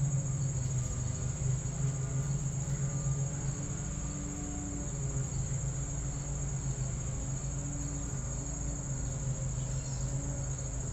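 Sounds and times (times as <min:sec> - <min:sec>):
insects droning: 0:00.0 - 0:10.9.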